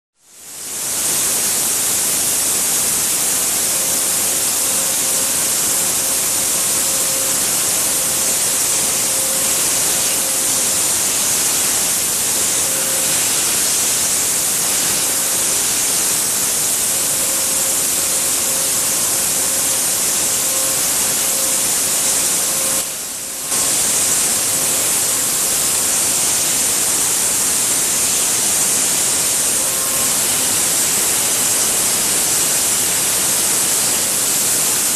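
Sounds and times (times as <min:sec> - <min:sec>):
air nozzle hiss: 0:00.4 - 0:34.9
milling cutter tone: 0:02.5 - 0:34.9.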